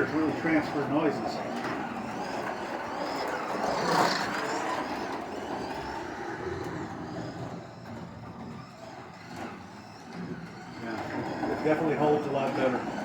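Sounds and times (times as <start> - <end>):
slot car motor whine: 0.0 - 13.0.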